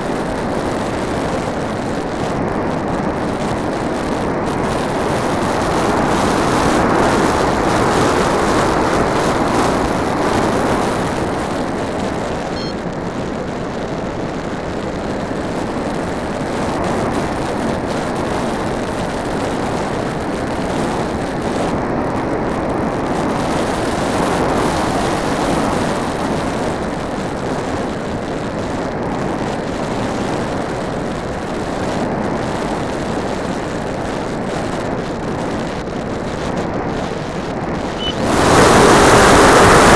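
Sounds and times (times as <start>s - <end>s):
airflow and propeller noise: 0.0s - 39.9s.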